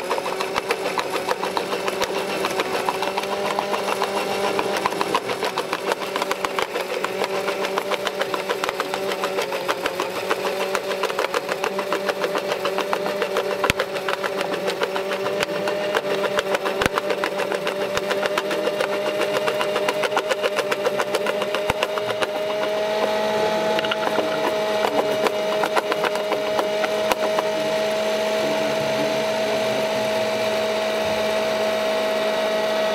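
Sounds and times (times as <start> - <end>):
electric motor whine: 0.0 - 32.9
fast mechanical rattle: 0.0 - 32.9.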